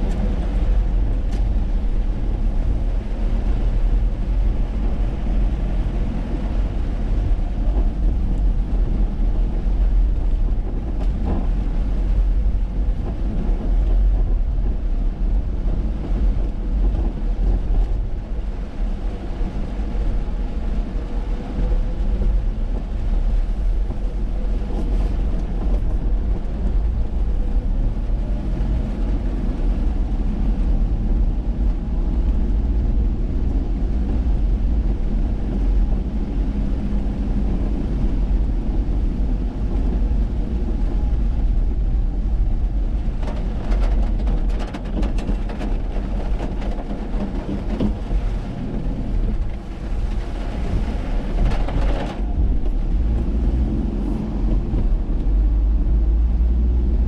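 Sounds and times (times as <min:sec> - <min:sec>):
engine and road noise: 0:00.0 - 0:57.0
faint engine hum: 0:00.0 - 0:57.0.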